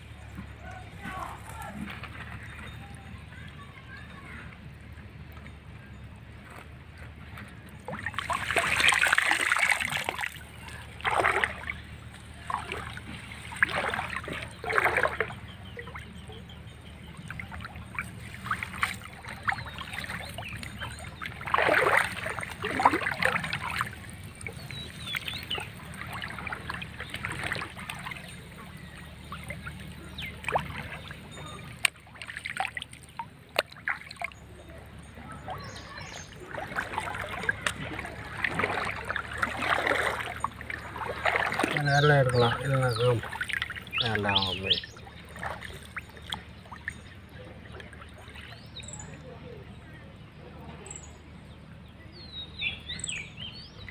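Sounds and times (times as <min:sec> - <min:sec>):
water splashing from wading: 0:00.0 - 0:53.9.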